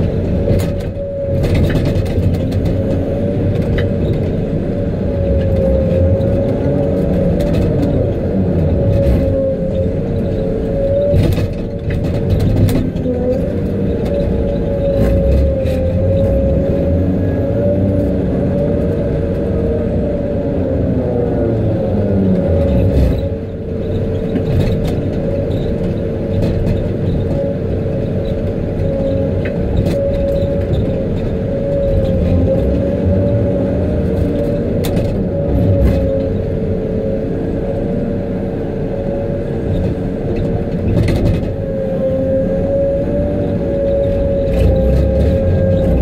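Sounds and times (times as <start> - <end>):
log loader running: 0.0 - 46.0.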